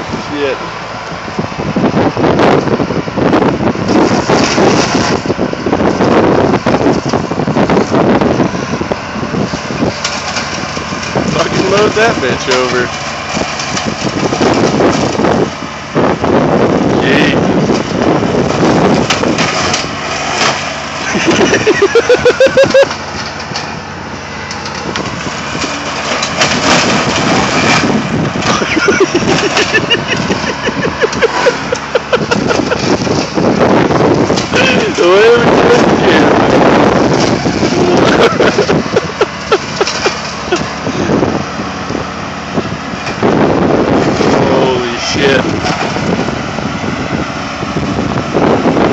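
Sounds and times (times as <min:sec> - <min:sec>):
mower blades chewing through bush: 0:00.0 - 0:48.9
riding mower running: 0:00.0 - 0:48.9.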